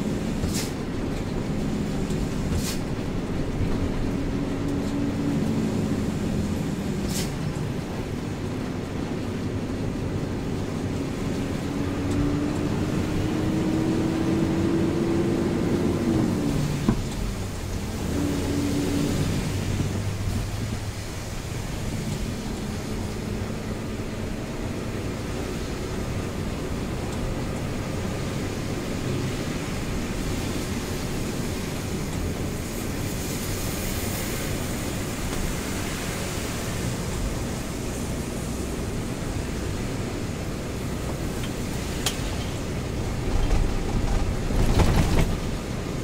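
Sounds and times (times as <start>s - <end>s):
rain: 0.0s - 46.0s
truck engine drone: 0.0s - 46.0s
tyres hissing on wet road: 0.0s - 46.0s.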